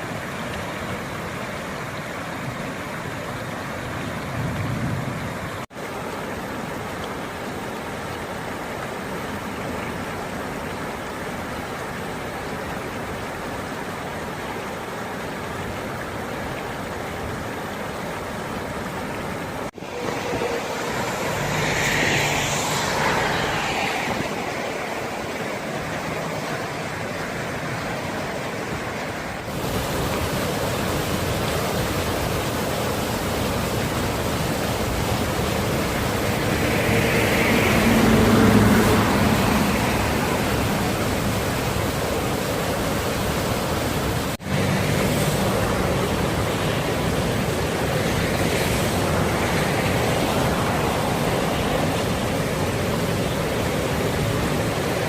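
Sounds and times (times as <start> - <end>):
heavy rain: 0.0 - 55.0
running rainwater: 0.0 - 55.0.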